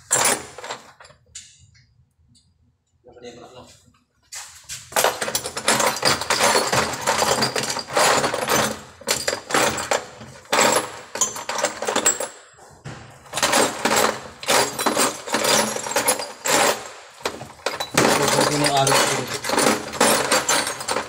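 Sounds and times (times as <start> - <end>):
metal parts clinking and rattling: 0.0 - 1.6, 4.8 - 12.5, 13.2 - 21.0.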